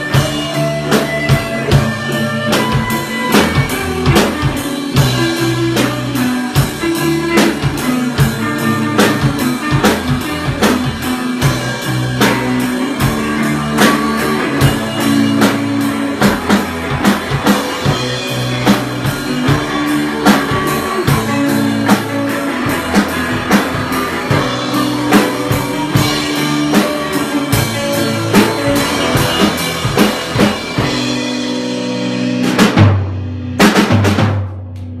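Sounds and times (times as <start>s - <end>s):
drum kit beat: 0.0s - 35.0s
electric guitar: 0.0s - 35.0s.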